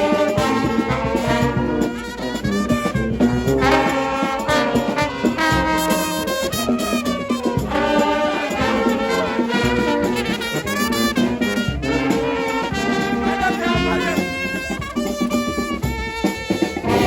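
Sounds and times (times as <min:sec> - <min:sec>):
brass music: 0:00.0 - 0:17.0
steady low beat: 0:00.0 - 0:17.0.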